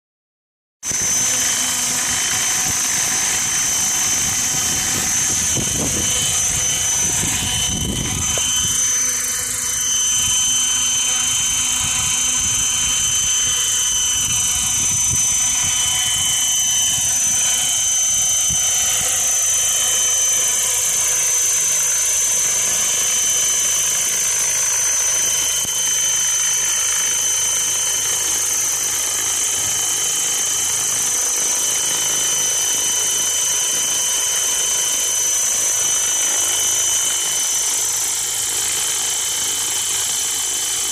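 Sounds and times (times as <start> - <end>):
rc helicopter rotor whine: 0.8 - 40.9.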